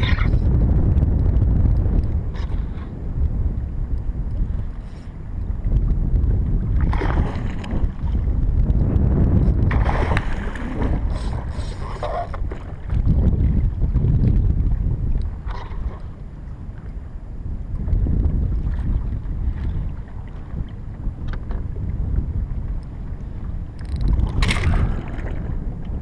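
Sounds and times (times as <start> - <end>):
wind rumbling on microphone: 0.0 - 26.0
water splashing against kayak: 1.2 - 17.0, 17.8 - 26.0.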